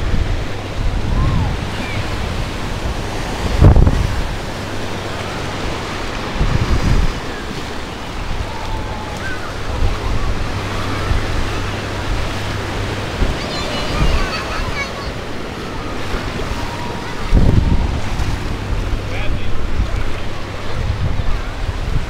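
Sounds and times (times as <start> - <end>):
ocean surf on a beach: 0.0 - 22.0
wind buffeting microphone: 0.0 - 22.0.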